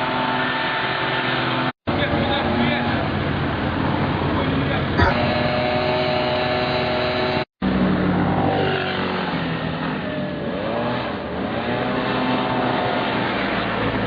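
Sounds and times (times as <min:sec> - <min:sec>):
vehicle engines running: 0:00.0 - 0:14.0.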